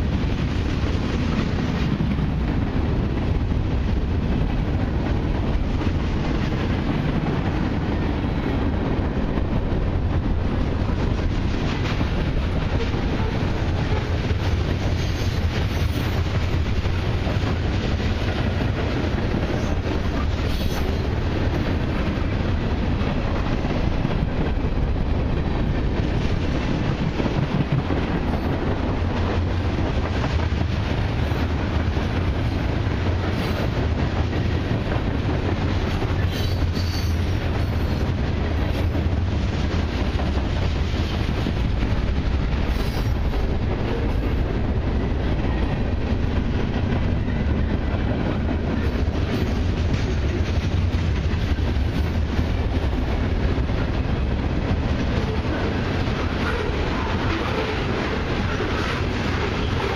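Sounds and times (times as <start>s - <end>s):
freight train wheels rumbling on rail: 0.0s - 59.9s
sharp clicks of train wheels: 0.0s - 59.9s.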